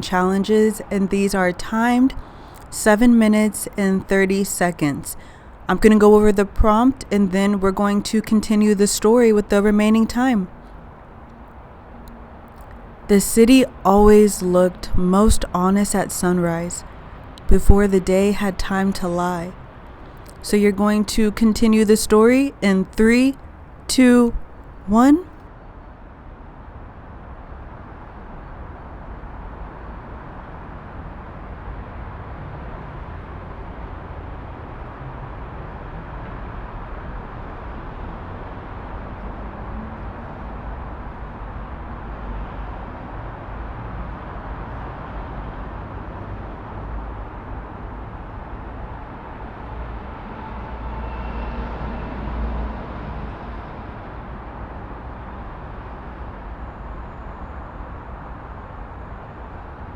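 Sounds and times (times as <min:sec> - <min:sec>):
road traffic rumble and hiss: 0:00.0 - 0:15.6, 0:25.8 - 0:59.9.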